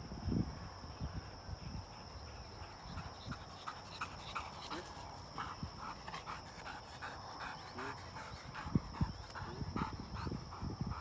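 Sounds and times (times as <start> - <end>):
dog panting rapidly: 1.9 - 11.0.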